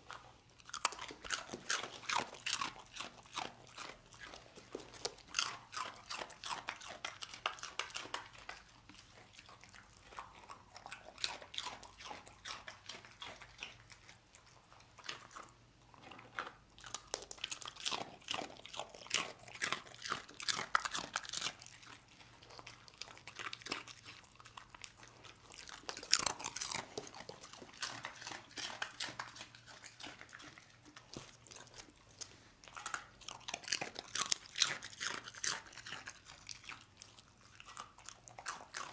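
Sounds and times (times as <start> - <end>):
dog crunching dry snacks: 0.0 - 38.9.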